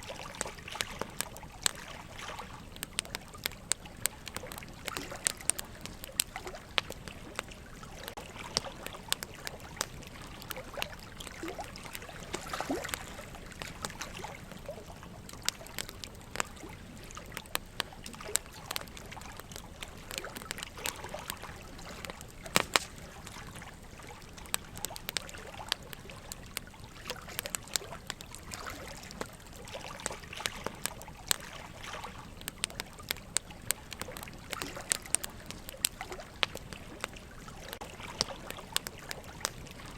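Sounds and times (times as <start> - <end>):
fire crackling and popping: 0.0 - 39.9
water trickling and sloshing: 0.0 - 39.9.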